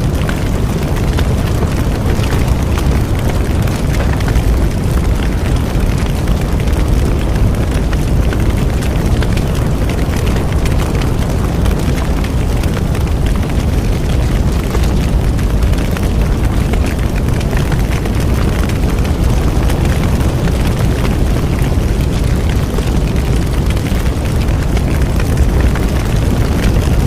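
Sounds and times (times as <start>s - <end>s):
bonfire crackling: 0.0s - 27.0s.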